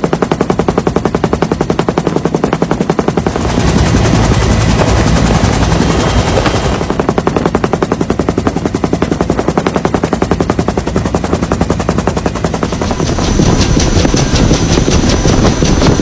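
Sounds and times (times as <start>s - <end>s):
rapid pulsing rotor beat: 0.0s - 16.0s.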